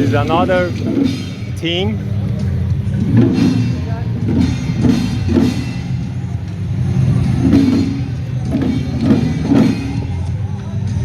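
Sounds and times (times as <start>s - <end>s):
street drums beating: 0.0s - 11.0s.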